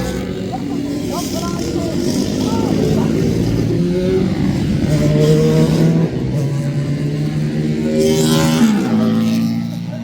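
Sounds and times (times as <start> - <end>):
racing car engine running hard: 0.0 - 10.0.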